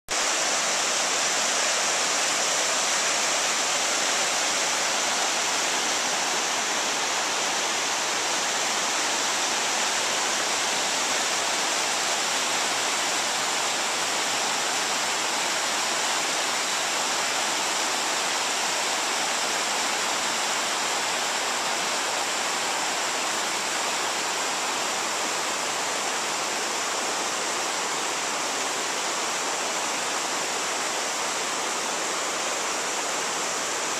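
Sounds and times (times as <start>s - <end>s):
river running over stones: 0.1s - 33.9s.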